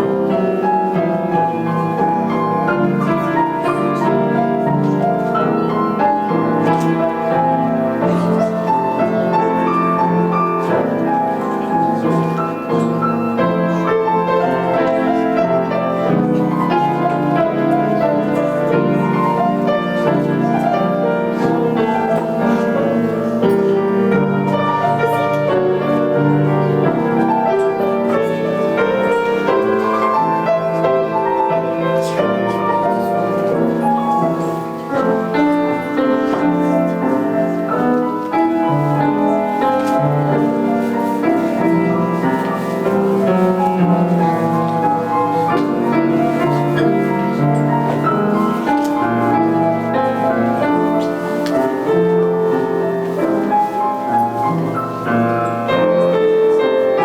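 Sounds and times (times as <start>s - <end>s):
solo classical piano piece: 0.0s - 57.0s.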